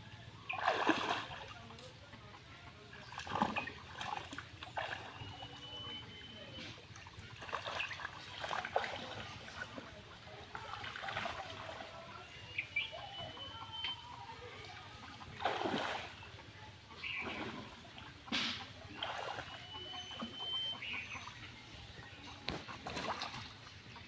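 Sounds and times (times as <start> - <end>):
muddy water splashing: 0.1 - 24.0.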